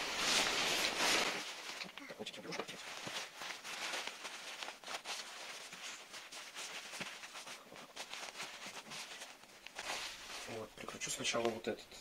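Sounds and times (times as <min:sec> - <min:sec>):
hands rustling faux fur: 0:00.0 - 0:11.7.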